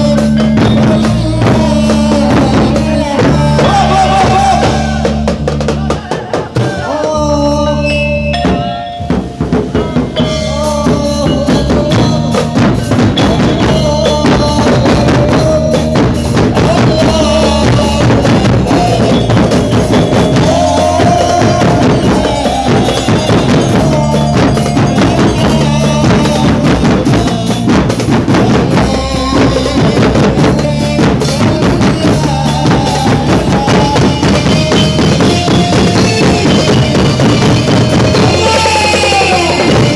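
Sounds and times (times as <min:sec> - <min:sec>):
loud music with drum beat: 0:00.0 - 0:39.9.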